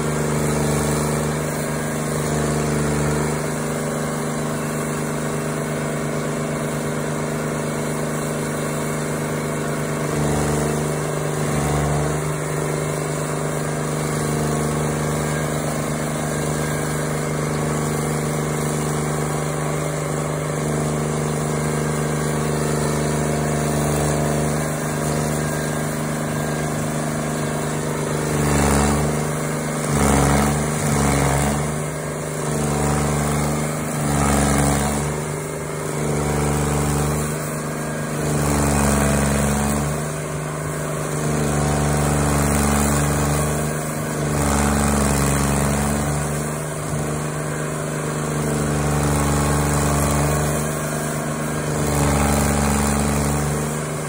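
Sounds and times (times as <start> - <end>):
cutter wheel grinding wood: 0.0 - 54.0
stump grinder engine running: 0.0 - 54.0.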